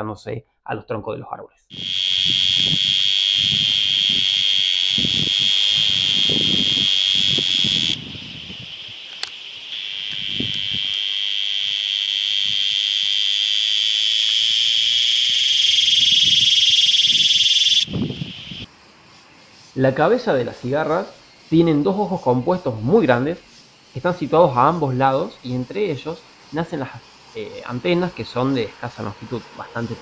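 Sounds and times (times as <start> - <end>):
cicada buzzing: 1.7 - 18.7, 20.7 - 30.0.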